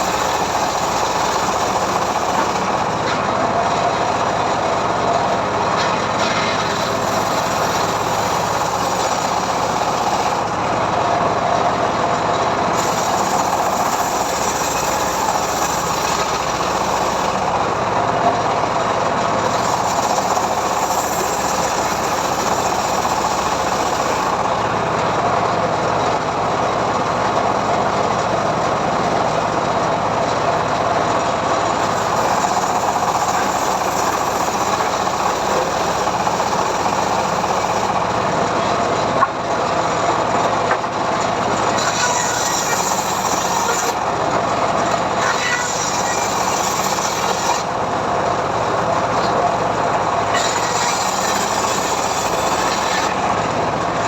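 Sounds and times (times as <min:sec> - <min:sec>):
engine-driven sawmill ripping log: 0:00.0 - 0:54.0.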